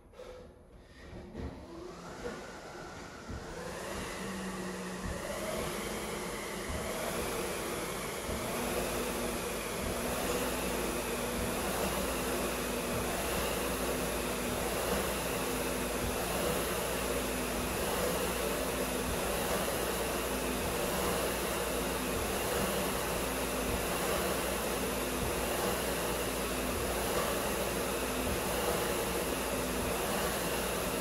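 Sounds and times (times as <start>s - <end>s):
flywheel fan whirring: 1.8s - 31.0s.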